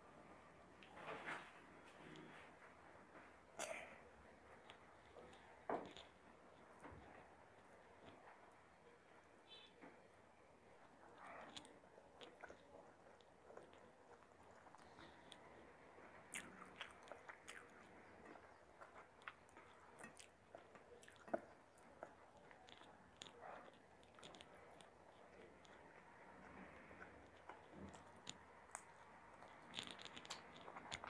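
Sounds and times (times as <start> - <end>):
faint chewing: 0.0 - 31.0.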